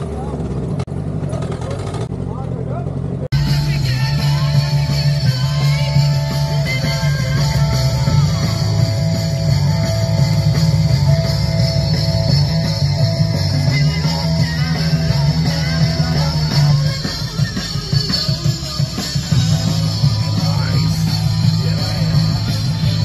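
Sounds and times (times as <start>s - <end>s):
rock music: 3.3s - 23.0s.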